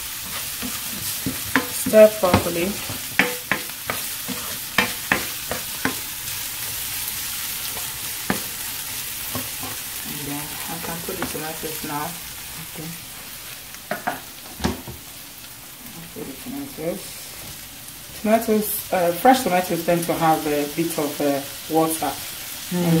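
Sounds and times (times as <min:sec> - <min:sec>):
vegetables sizzling in frying pan: 0:00.0 - 0:23.0.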